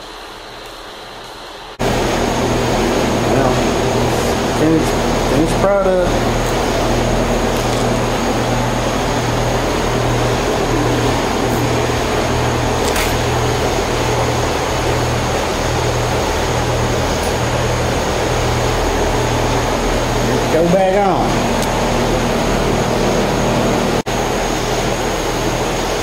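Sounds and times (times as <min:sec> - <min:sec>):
fan-like machine whir: 0:00.0 - 0:26.0
low electrical hum: 0:00.0 - 0:26.0.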